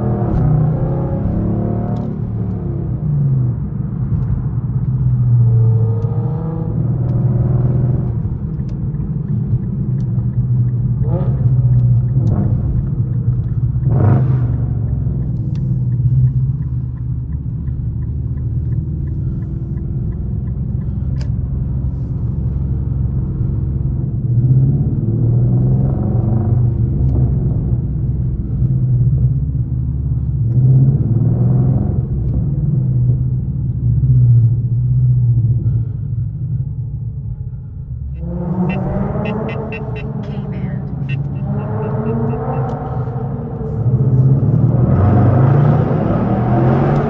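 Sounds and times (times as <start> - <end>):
deep car exhaust drone: 0.0 - 47.0.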